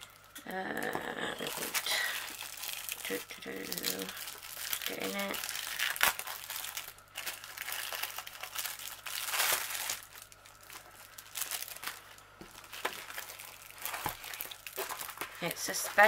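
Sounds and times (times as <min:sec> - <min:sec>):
plastic sleeve crinkling: 0:00.0 - 0:16.0.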